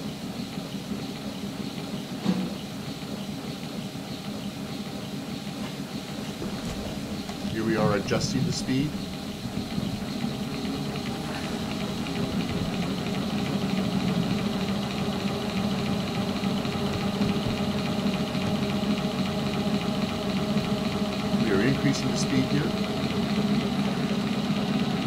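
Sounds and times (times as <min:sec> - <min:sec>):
motor humming with high tone: 0:00.0 - 0:25.0.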